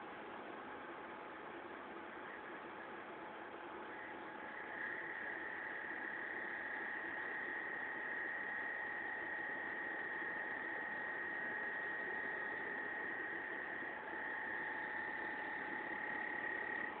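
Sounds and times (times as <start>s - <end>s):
air conditioner high-pitched whine: 0.0s - 17.0s.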